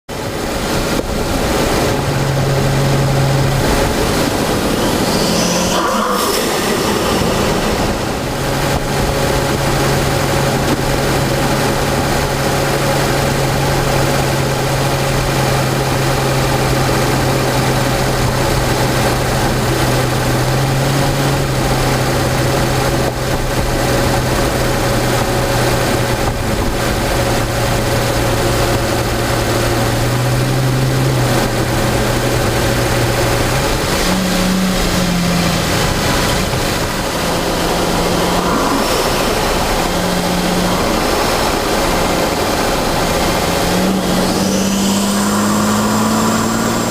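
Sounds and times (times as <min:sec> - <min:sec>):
car engine droning: 0:00.1 - 0:46.9
road noise: 0:00.1 - 0:46.9.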